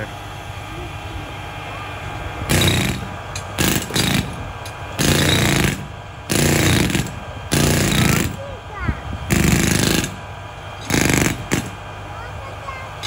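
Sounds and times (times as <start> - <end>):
jackhammer running: 2.5 - 13.0.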